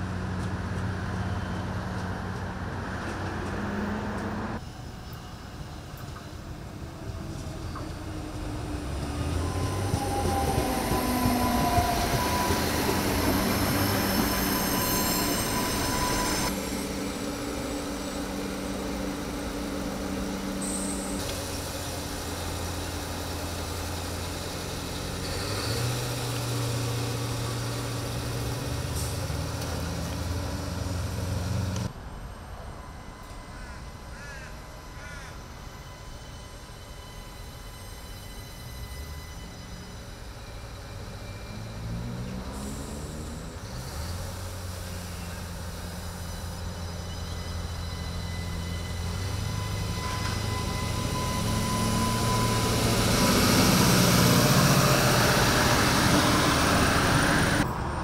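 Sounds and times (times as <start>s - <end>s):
diesel railcar engine drone: 0.0s - 58.0s
wheels squealing on rails: 0.0s - 58.0s.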